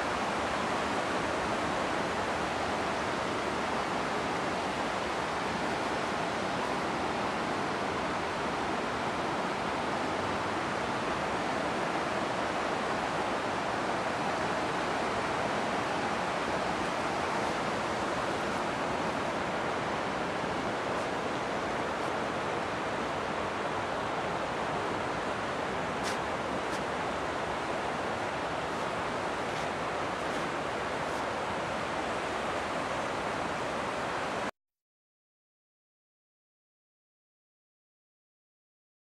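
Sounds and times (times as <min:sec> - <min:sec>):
rushing floodwater: 0:00.0 - 0:34.5.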